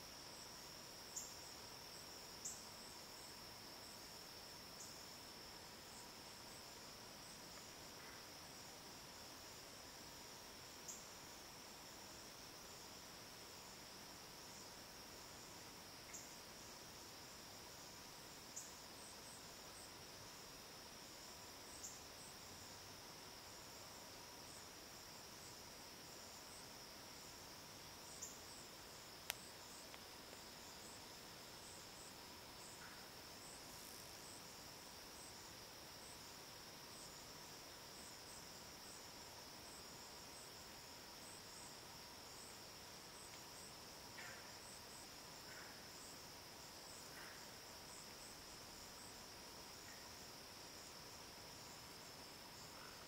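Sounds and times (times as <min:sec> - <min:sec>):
insect chirps: 0:00.0 - 0:53.0
insect trill: 0:00.0 - 0:53.0.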